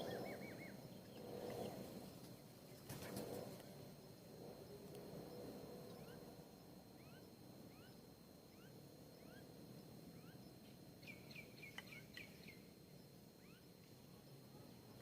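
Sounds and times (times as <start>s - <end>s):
faint rising bird chirps: 0.0s - 3.5s, 5.2s - 13.8s.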